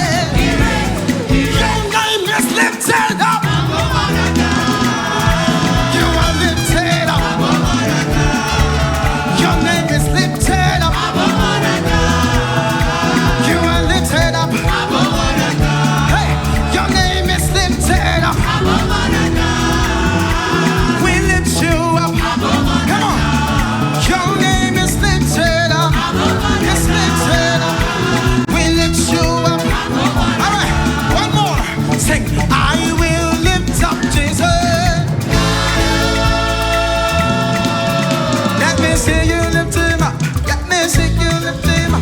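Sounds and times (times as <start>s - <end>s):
live worship band playing: 0.0s - 42.0s
person singing: 0.0s - 42.0s.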